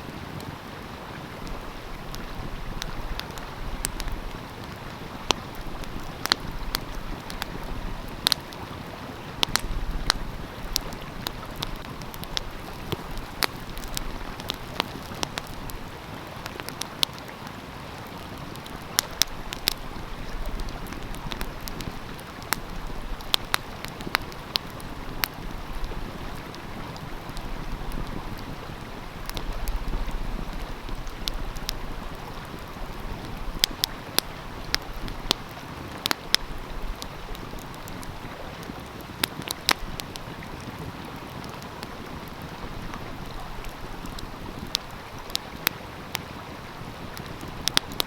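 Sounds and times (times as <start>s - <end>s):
stream flowing: 0.0s - 48.0s
wood fire crackling: 0.0s - 48.0s.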